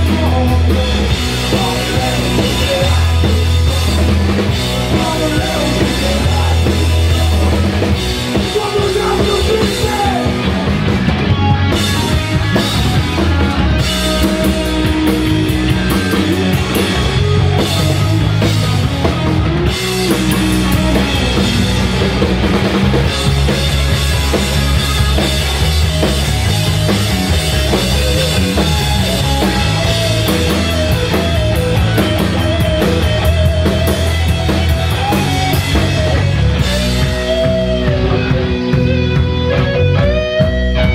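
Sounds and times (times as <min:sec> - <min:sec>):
punk rock band playing live: 0:00.0 - 0:40.9.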